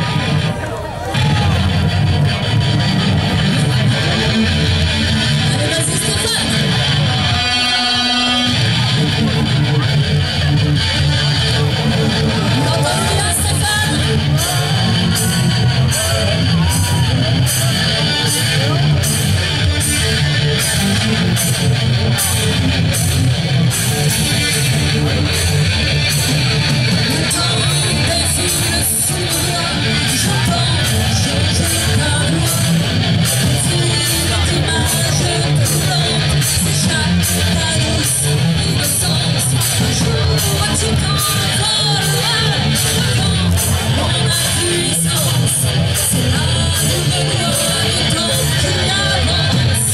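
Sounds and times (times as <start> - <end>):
rock band playing loud: 0.0 - 49.9.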